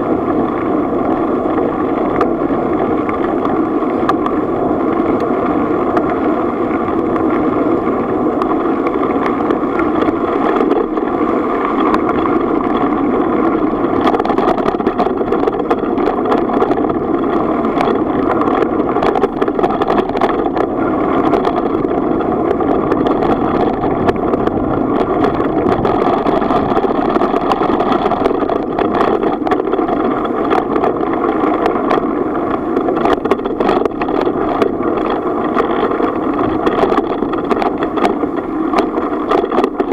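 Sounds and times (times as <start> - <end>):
bicycle clicks and rattles: 0.0 - 39.9
bicycle rolling on gravel: 0.0 - 39.9.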